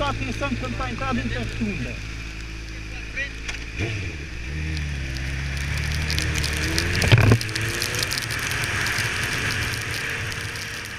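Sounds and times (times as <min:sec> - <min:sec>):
motorcycle engine revving: 0:00.0 - 0:10.9
rain: 0:00.0 - 0:10.9
wind: 0:00.0 - 0:10.9
wet tyres hissing: 0:00.1 - 0:10.9.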